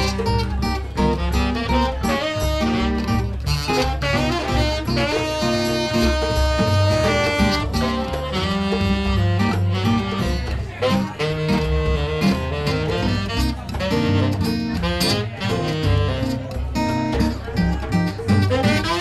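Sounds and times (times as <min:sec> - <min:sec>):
hand drum: 0:00.0 - 0:19.0
plucked upright bass: 0:00.0 - 0:19.0
saxophone: 0:00.0 - 0:19.0.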